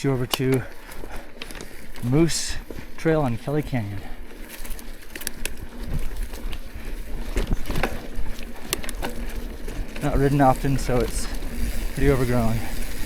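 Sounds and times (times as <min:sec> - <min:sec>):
bike clicks and rattles: 0:00.0 - 0:13.0.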